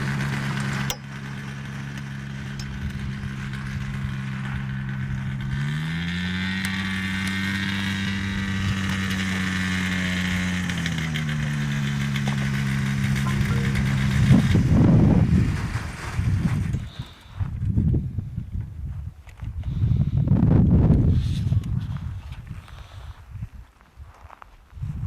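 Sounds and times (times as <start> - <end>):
light aircraft engine: 0.0 - 25.0.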